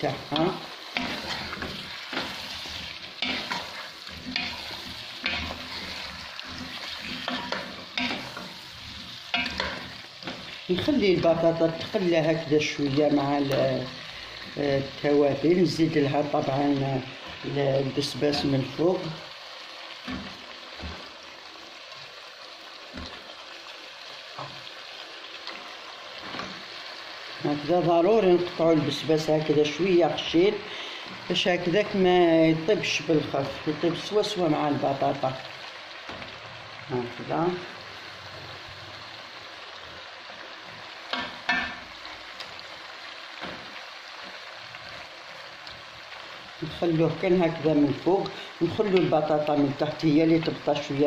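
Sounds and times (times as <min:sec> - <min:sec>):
potatoes sizzling in sauce: 0:00.0 - 0:51.0.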